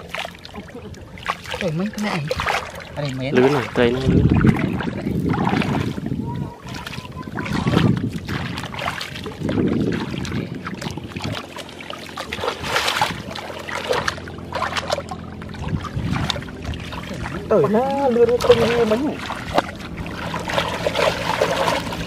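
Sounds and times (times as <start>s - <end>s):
water splashing in mud: 0.0s - 22.0s.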